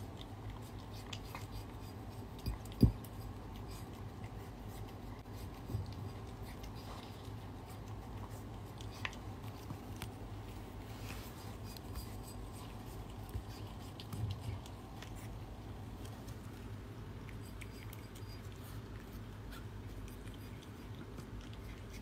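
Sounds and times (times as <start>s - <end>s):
cat chewing and licking: 0.0s - 22.0s
low background hum: 0.0s - 22.0s.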